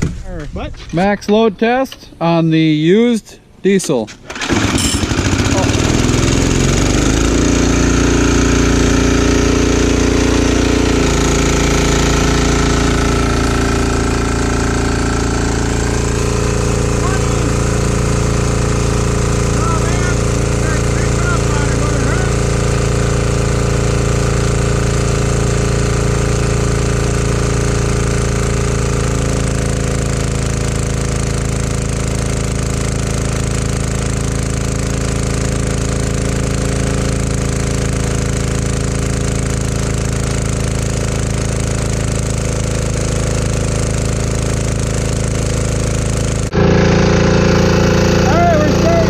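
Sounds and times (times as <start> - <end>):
diesel generator engine clattering: 4.0 - 49.0.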